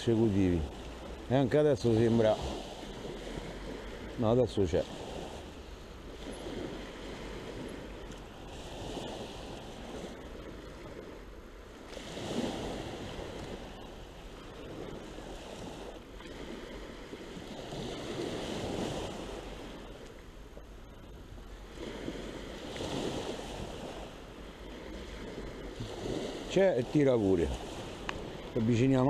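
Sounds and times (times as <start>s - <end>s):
sea waves breaking on a beach: 0.0s - 29.0s.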